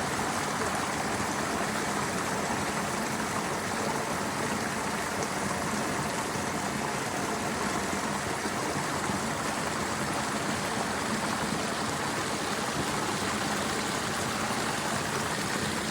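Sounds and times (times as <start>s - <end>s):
running water: 0.0s - 15.9s.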